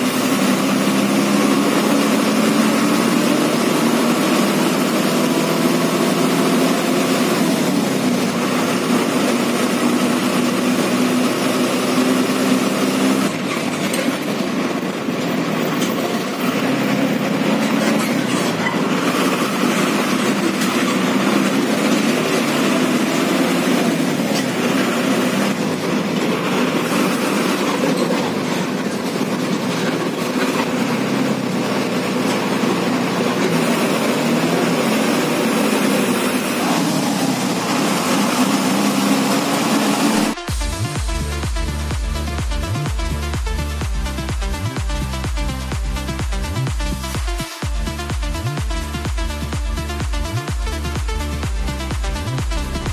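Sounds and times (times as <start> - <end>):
bus diesel engine running: 0.0 - 52.9
road noise: 0.0 - 52.9.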